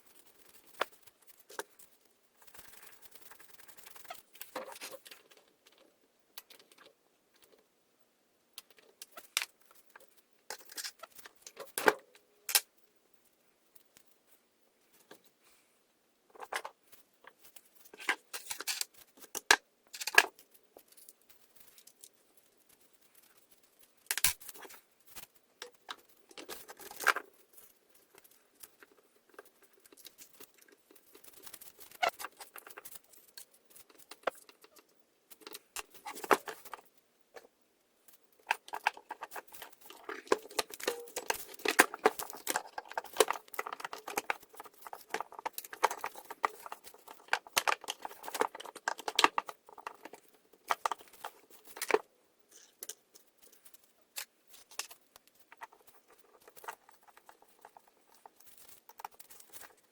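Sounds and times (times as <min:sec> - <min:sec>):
rustling: 0:00.0 - 0:07.7, 0:08.8 - 0:59.9.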